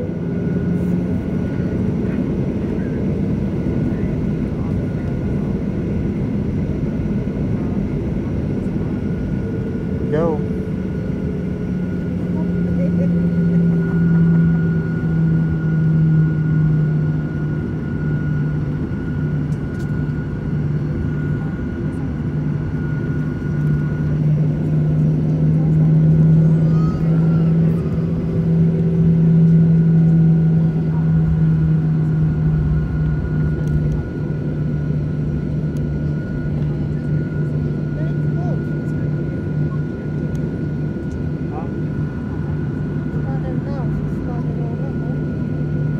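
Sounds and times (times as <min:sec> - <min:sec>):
jet engines idling hum: 0:00.0 - 0:45.9
thin steady engine whine: 0:00.0 - 0:45.9.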